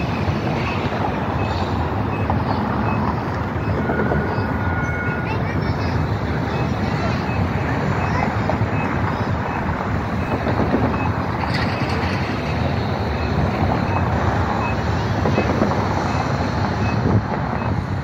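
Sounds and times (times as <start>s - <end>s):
traffic noise: 0.0s - 18.0s
wind rumbling on microphone: 0.0s - 18.0s.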